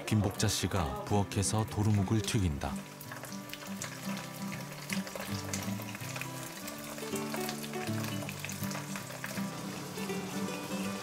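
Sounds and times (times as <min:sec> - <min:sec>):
fish sizzling in hot oil: 0:02.0 - 0:11.0.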